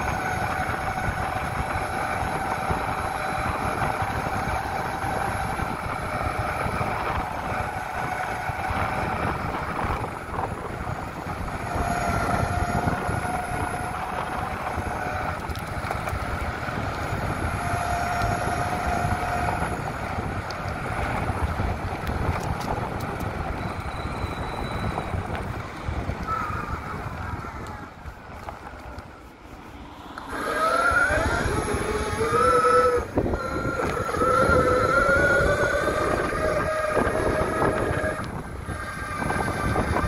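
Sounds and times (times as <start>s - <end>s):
electric motor whine: 0.0s - 40.0s
wheels rumbling on ground: 0.0s - 40.0s
wind on microphone: 0.0s - 40.0s.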